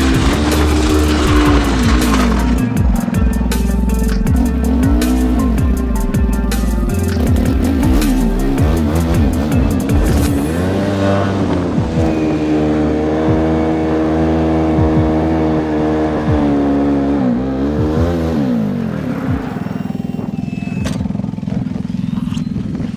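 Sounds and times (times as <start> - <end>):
atv engine running: 0.0 - 22.9.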